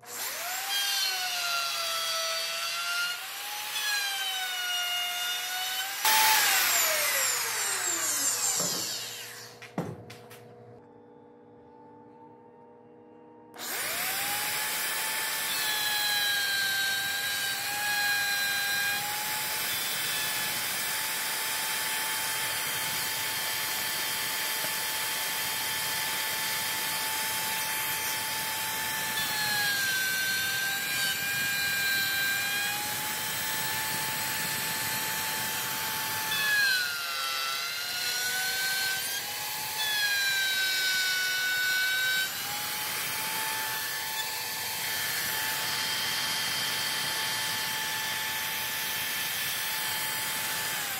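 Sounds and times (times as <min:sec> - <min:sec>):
router cutting wood: 0:00.0 - 0:10.3, 0:13.6 - 0:50.9.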